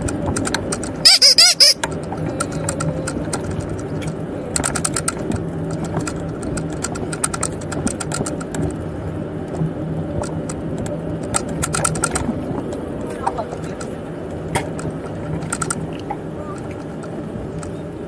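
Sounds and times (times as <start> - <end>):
bicycle ticking and rattling: 0.0 - 18.0.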